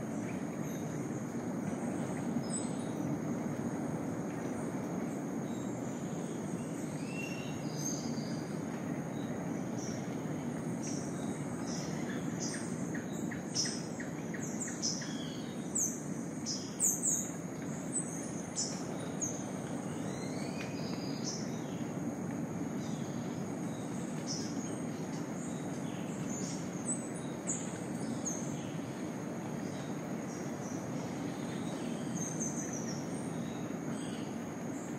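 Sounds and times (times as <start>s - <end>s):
low hiss: 0.0s - 34.9s.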